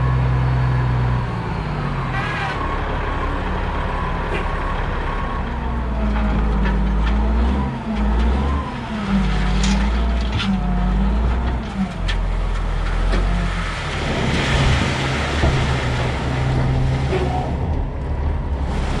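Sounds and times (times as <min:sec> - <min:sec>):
diesel loader engine revving: 0:00.0 - 0:19.0.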